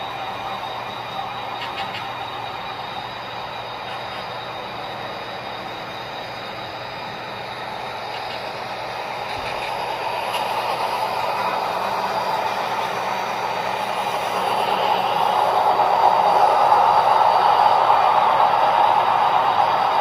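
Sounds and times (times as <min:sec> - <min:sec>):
model locomotive diesel sound: 0:00.0 - 0:20.0.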